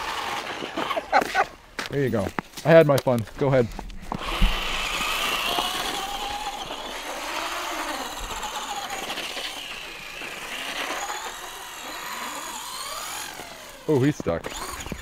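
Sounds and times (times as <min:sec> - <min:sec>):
rc truck motor whining: 0:00.0 - 0:01.1, 0:04.0 - 0:15.0.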